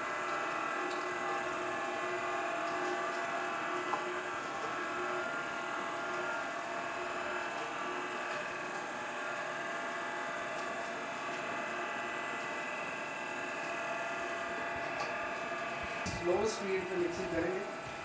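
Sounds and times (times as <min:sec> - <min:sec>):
electric stirrer motor whirring: 0:00.0 - 0:18.0.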